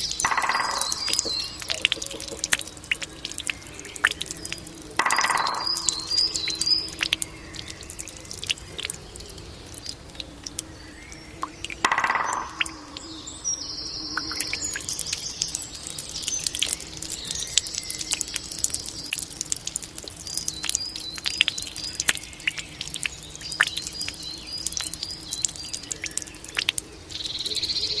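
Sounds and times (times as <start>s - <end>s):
water dripping from bamboo fountain: 0.0s - 27.9s
birds chirping: 0.0s - 28.0s.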